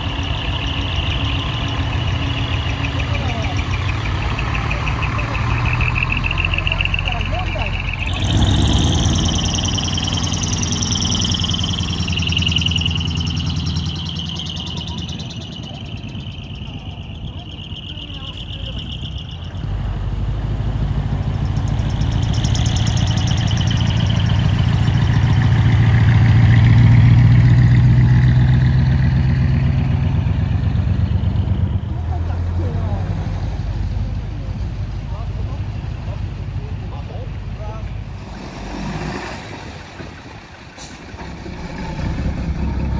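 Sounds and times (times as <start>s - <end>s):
truck diesel engine rumbling: 0.0s - 42.9s.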